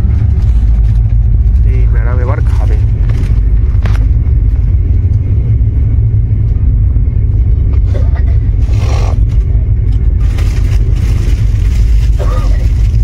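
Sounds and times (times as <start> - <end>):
train rumbling inside coach: 0.0 - 13.0.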